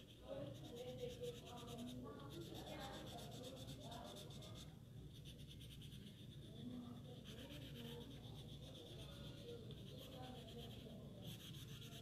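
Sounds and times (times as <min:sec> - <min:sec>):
felt-tip pen scratching on paper: 0:00.0 - 0:12.0.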